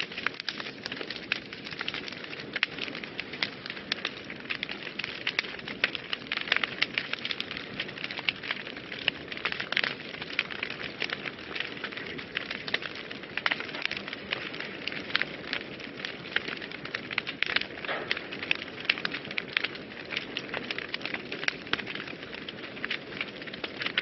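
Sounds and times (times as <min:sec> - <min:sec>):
steady fire hiss: 0:00.0 - 0:24.0
wood fire crackling and popping: 0:00.0 - 0:24.0.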